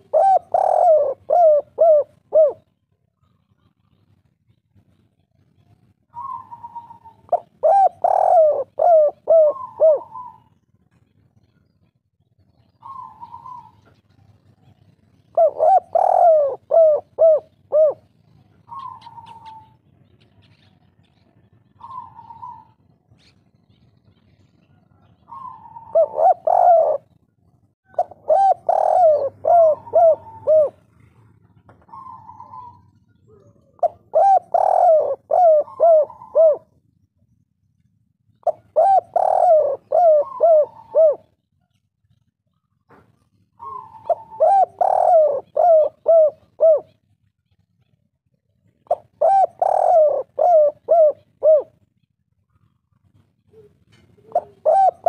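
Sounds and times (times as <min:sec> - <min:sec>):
dove cooing: 0:00.0 - 0:04.1, 0:05.6 - 0:10.6, 0:12.5 - 0:23.8, 0:24.6 - 0:36.8, 0:38.4 - 0:41.4, 0:42.5 - 0:48.0, 0:48.7 - 0:55.0.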